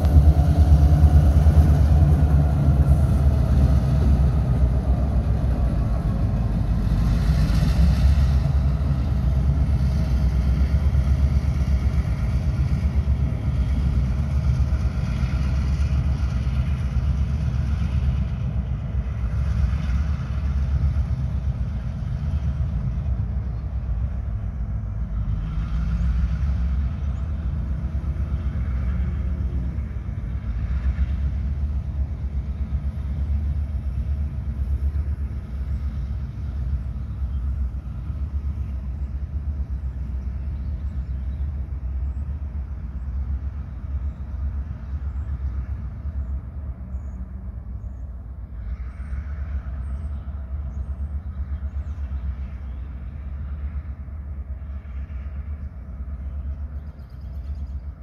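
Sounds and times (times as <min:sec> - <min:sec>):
cars passing: 0:00.0 - 0:58.0
distant diesel locomotive rumble: 0:00.0 - 0:58.0.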